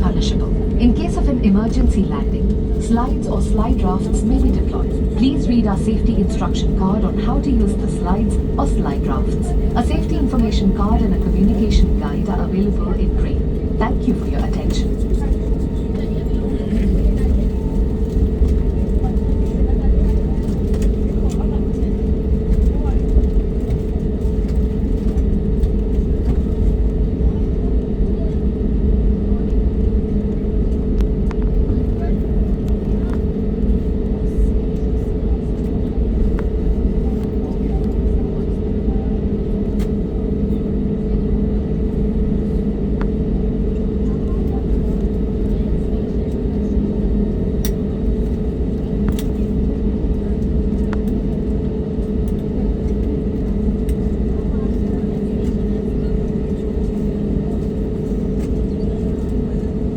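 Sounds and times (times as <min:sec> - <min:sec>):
airliner cabin rumble: 0:00.0 - 0:59.9
constant hum: 0:00.0 - 0:59.9.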